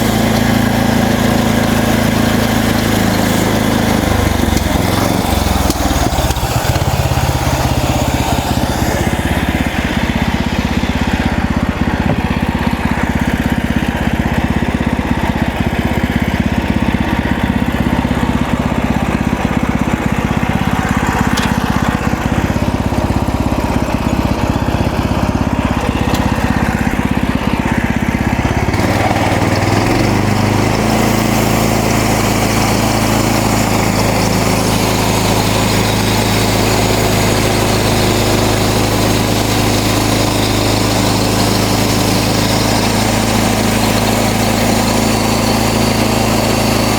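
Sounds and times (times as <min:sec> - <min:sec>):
sawmill gas engine running: 0:00.0 - 0:46.9.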